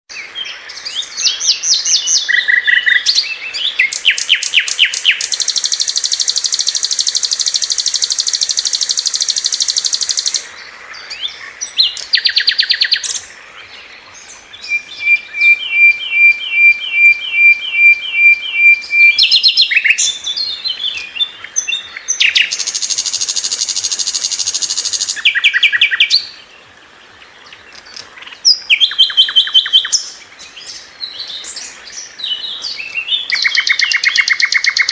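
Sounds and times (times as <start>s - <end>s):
bird singing trills: 0.1s - 34.9s.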